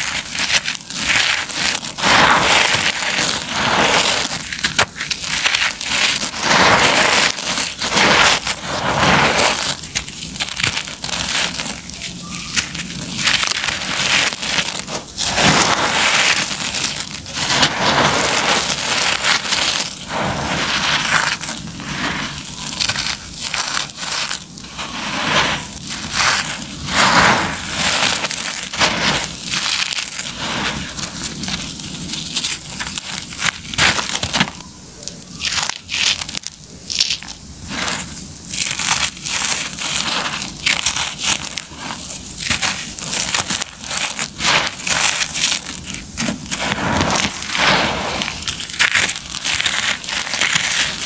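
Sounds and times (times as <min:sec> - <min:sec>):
concrete lumps crunching by hand: 0:00.0 - 0:34.6, 0:35.2 - 0:51.0
grit pouring down: 0:00.0 - 0:51.0.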